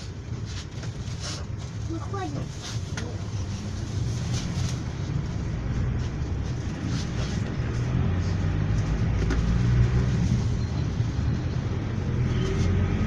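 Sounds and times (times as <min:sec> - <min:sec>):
minibus engine and road rumble: 0:00.0 - 0:13.0.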